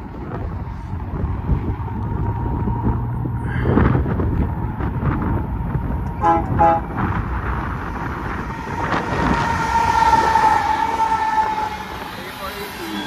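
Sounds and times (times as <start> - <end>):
wind buffeting microphone: 0.0 - 12.4
freight train passing: 0.0 - 13.0.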